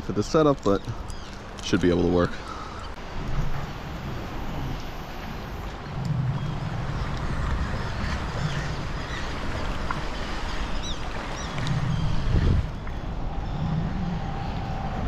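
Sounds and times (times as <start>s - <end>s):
birds chirping: 0.0s - 3.7s, 4.4s - 14.9s
moving water: 0.0s - 15.0s
wind rumbling on microphone: 0.0s - 15.0s.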